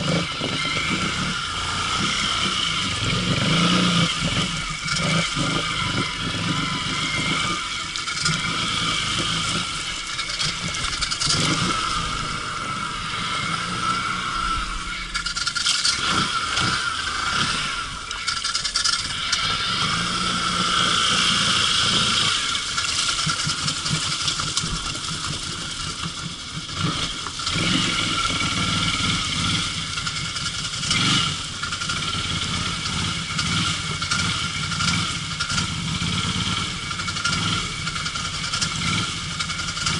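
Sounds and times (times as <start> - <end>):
rattling and scraping: 0.0 - 12.5, 15.0 - 35.8
quad bike engine running: 0.0 - 39.9.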